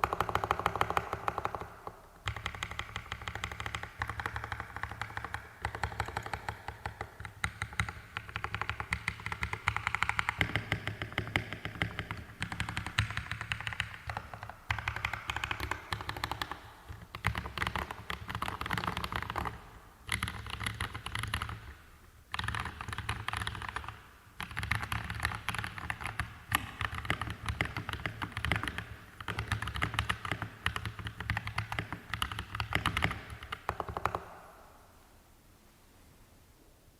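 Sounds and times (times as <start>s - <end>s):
fast typing on mechanical keyboard: 0.0s - 1.7s, 2.3s - 21.7s, 22.3s - 34.2s.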